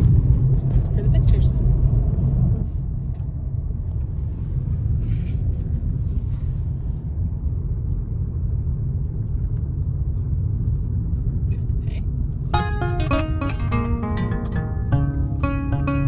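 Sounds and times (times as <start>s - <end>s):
engine and road noise in car: 0.0s - 16.0s.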